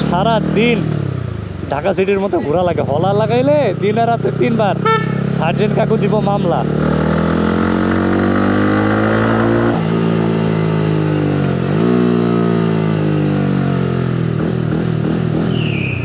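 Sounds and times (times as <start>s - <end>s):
motorcycle engine revving: 0.0s - 1.8s, 2.8s - 16.0s.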